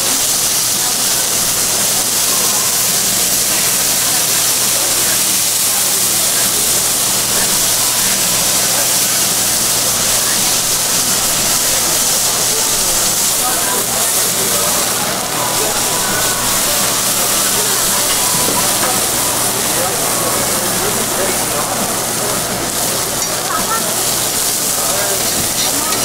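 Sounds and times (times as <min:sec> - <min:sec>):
meat sizzling on griddle: 0:00.0 - 0:26.0.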